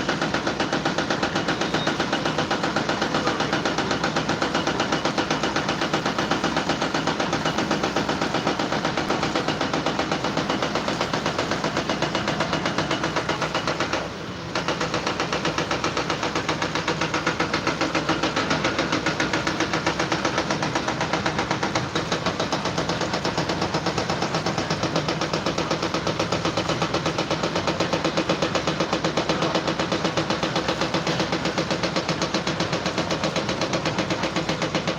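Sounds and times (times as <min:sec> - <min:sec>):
engine running with even pulsing: 0:00.0 - 0:34.9.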